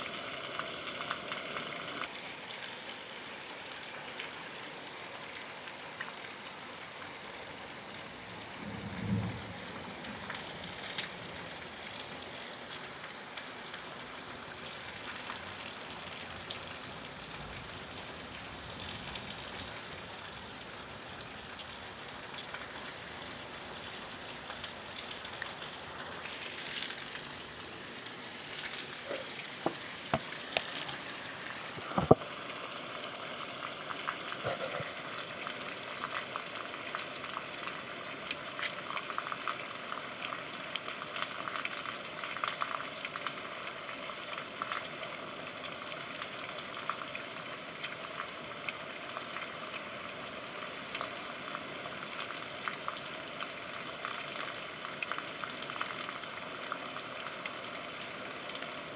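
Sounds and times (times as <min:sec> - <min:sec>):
rain patter: 0:00.0 - 0:58.9.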